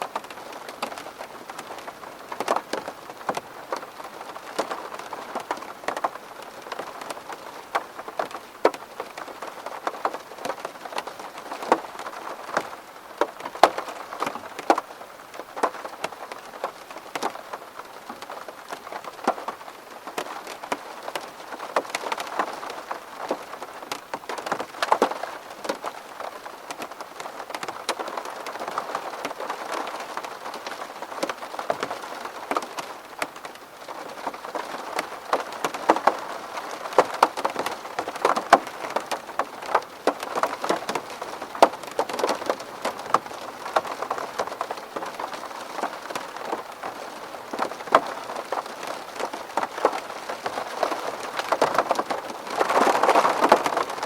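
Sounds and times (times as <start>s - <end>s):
raindrops tapping on glass: 4.6s - 54.0s.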